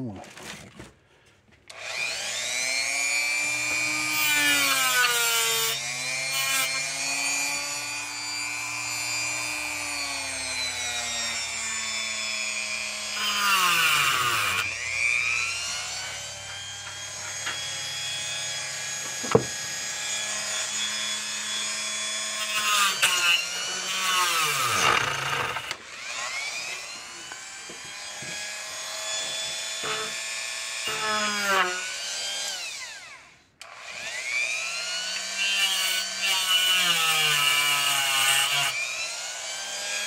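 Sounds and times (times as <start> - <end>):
power tool motor running: 1.7 - 40.0.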